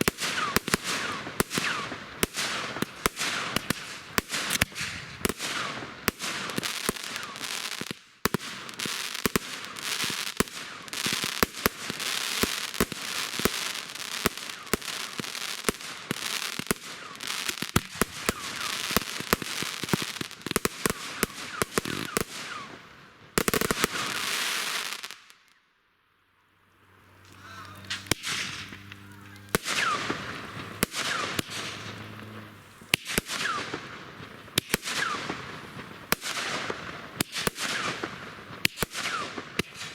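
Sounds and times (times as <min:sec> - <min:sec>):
firework bangs and crackling: 0:00.0 - 0:25.6, 0:27.4 - 0:39.9.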